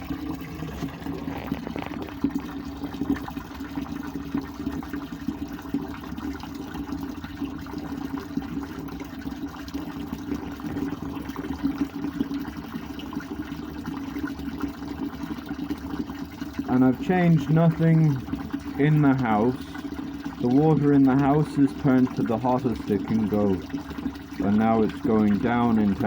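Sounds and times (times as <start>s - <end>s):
gas water heater burner rushing: 0.0s - 26.0s
water running: 0.0s - 26.0s.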